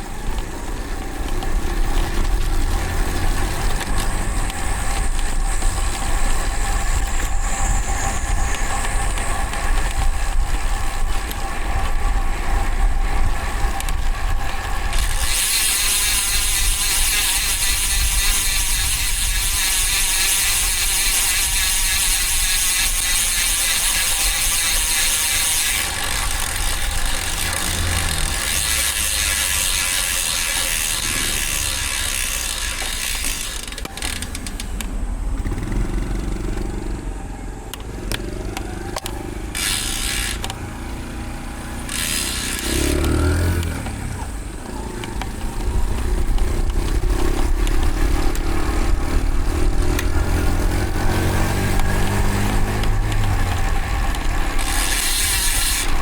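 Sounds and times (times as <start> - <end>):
road hiss: 0.0 - 38.5, 39.2 - 56.0
vehicle engines running: 0.0 - 56.0.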